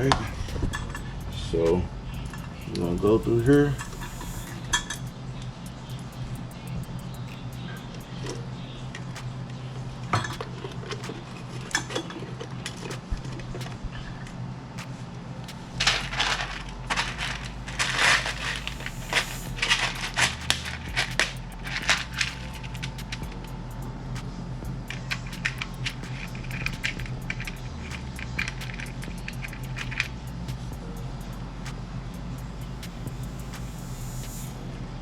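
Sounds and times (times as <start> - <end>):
small hard parts clicking and rattling: 0.0 - 14.1, 15.6 - 23.9, 24.6 - 31.8.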